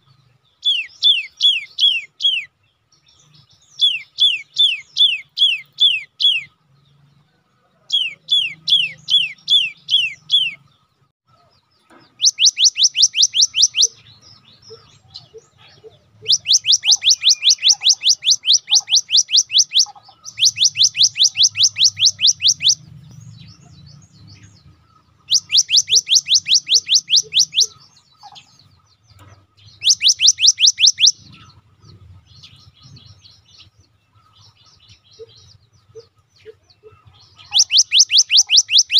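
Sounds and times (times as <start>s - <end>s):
bird singing sharp trills: 0.0s - 7.2s, 7.8s - 38.9s.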